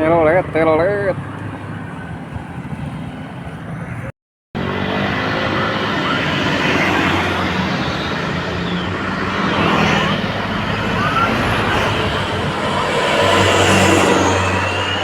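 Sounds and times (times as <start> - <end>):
large vehicle engine running: 0.0 - 15.0
tyre and road noise: 0.0 - 15.0.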